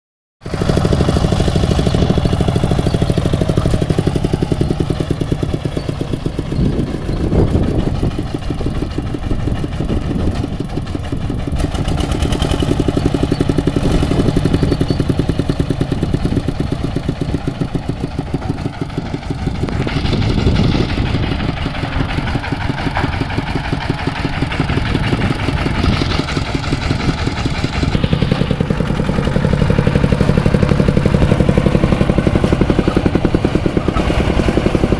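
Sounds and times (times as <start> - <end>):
combine harvester engine running: 0.4 - 34.9.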